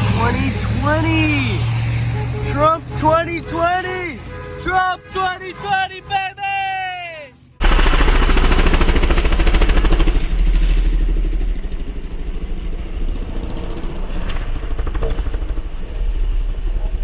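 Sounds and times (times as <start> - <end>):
engine running and idling: 0.0 - 17.0.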